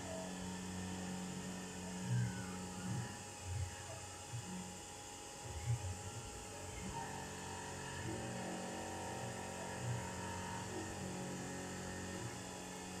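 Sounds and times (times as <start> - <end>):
low electrical hum with tones: 0.0 - 13.0.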